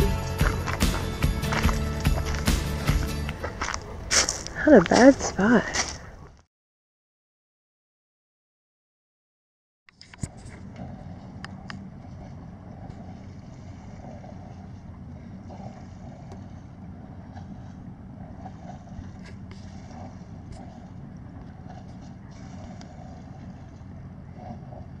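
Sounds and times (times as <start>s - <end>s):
steady low rumble: 0.0s - 6.3s, 10.3s - 25.0s.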